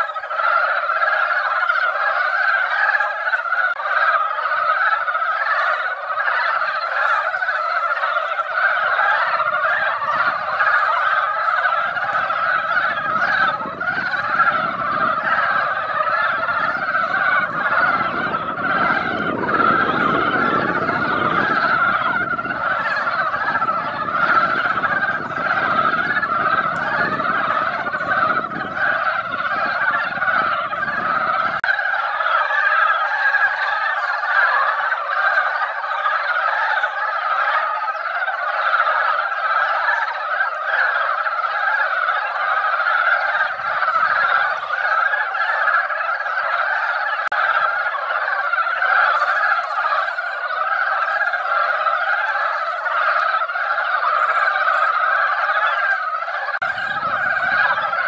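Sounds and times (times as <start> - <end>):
frogs croaking chorus: 0.0 - 58.0.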